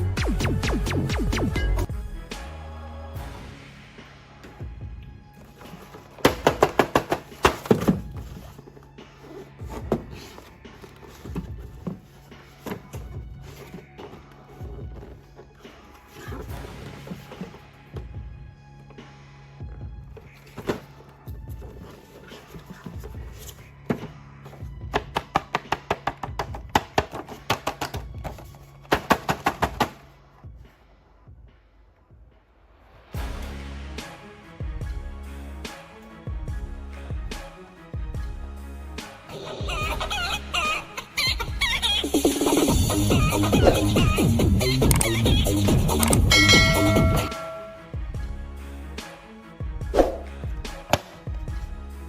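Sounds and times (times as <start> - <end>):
background music: 0.0 - 52.0.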